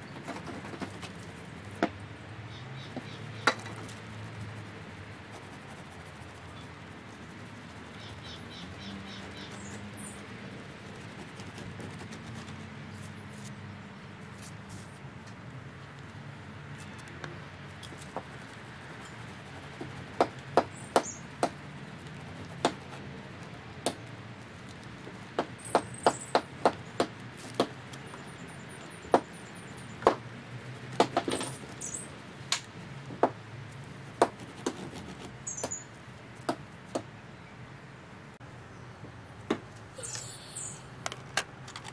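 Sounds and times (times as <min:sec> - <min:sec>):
small birds chirping: 0:00.0 - 0:14.5, 0:16.7 - 0:32.8, 0:33.7 - 0:41.0.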